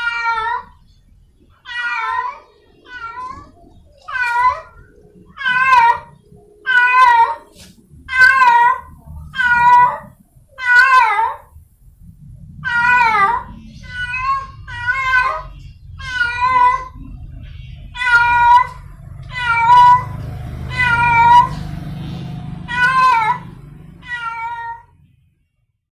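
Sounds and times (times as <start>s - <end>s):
cat meowing: 0.0s - 0.8s, 1.6s - 11.5s, 12.6s - 17.2s, 17.8s - 25.0s.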